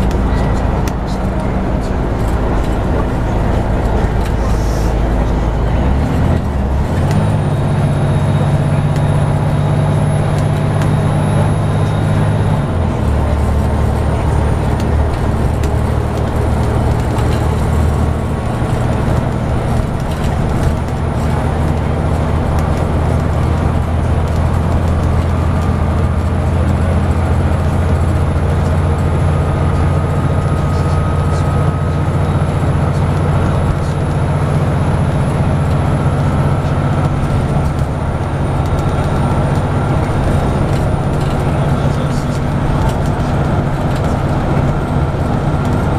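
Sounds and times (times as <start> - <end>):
bus diesel engine running: 0.0 - 45.9
road noise: 0.0 - 45.9.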